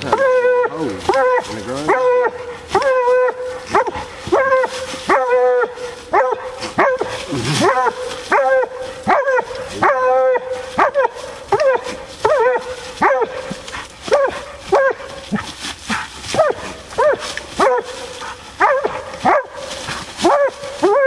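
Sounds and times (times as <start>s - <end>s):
dog barking: 0.1s - 15.2s, 16.3s - 21.0s.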